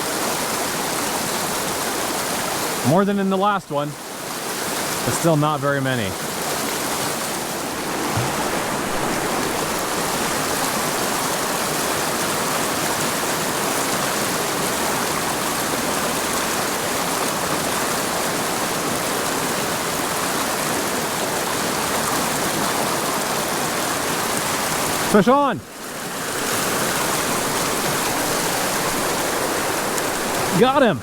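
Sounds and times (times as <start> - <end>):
creek running over rocks: 0.0 - 31.0.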